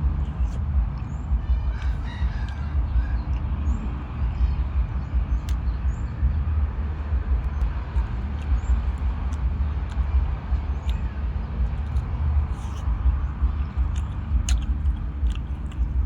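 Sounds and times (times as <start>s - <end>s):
low unsteady rumble: 0.0s - 16.0s.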